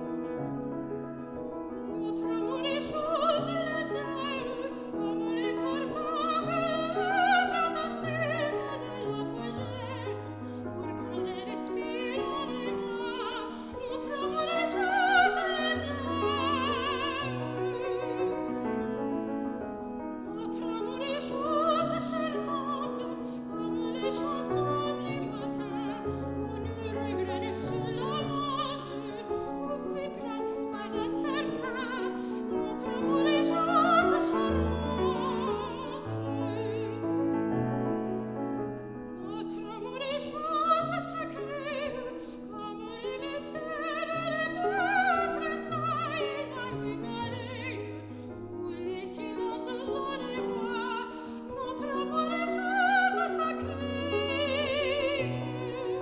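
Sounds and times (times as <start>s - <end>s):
piano accompaniment: 0.0s - 56.0s
soprano singing with vibrato: 1.7s - 37.8s, 39.0s - 56.0s.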